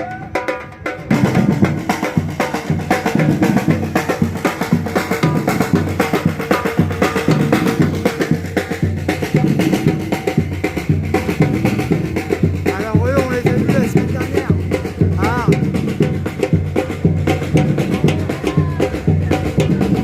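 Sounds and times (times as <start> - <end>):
drums beating a fast rhythm: 0.0 - 20.0.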